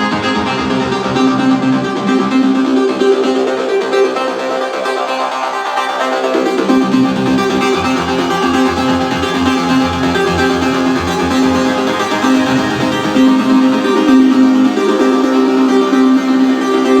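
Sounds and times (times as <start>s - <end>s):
pulsing bass line: 0.0s - 4.7s, 6.3s - 17.0s.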